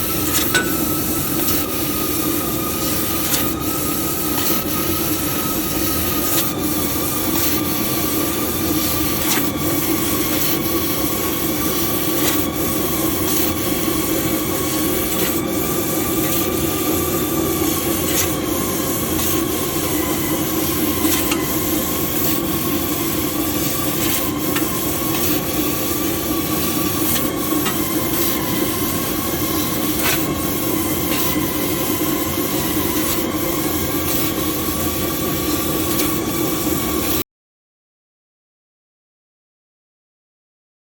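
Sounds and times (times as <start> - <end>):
laser cutting machine running: 0.0 - 37.2.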